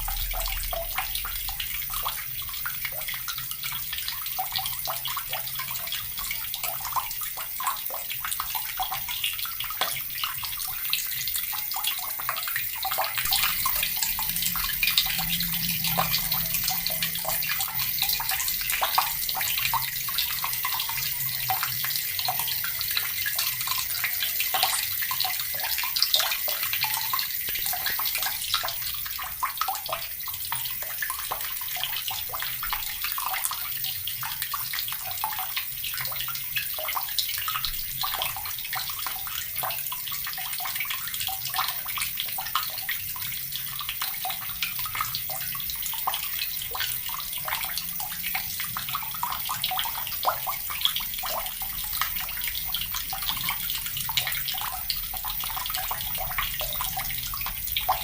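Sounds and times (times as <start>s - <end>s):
tap water running and splashing: 0.0s - 58.0s.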